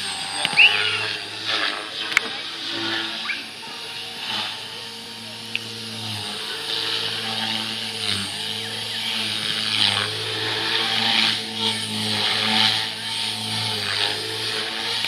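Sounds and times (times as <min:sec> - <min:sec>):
rc helicopter motor and rotor hum: 0:00.0 - 0:15.0.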